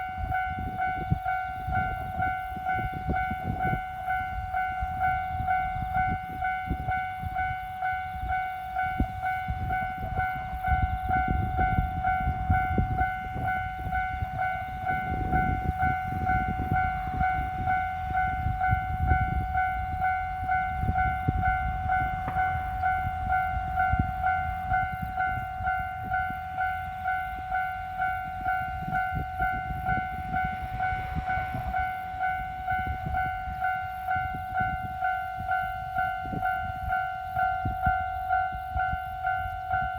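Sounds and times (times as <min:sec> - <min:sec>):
train passing: 0:00.0 - 0:39.9.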